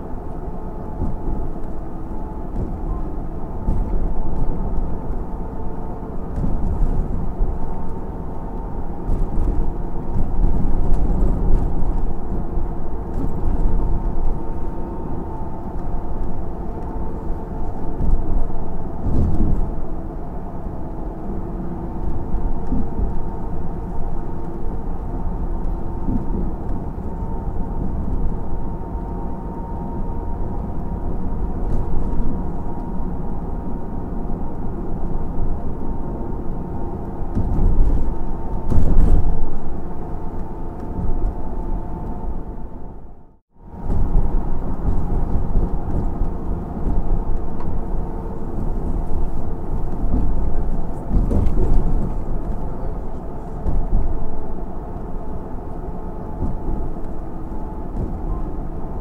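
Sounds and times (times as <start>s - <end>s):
vehicle interior rumble: 0.0s - 59.0s.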